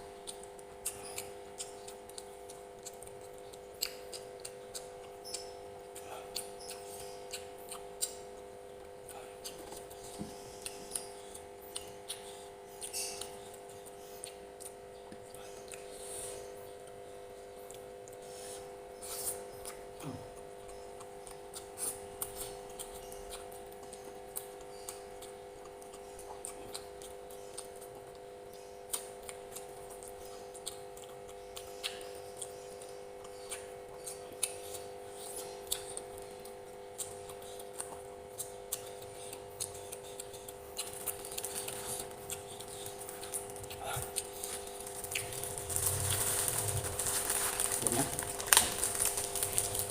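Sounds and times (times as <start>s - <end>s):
steady background hum: 0.0s - 49.9s
mouth clicks and chewing smacks: 0.2s - 16.0s, 19.0s - 46.2s.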